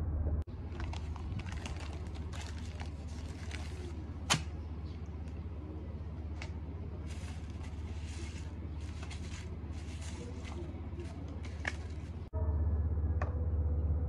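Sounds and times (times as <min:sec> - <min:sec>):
steady low hum: 0:00.0 - 0:14.0
paper rustling: 0:00.6 - 0:12.3.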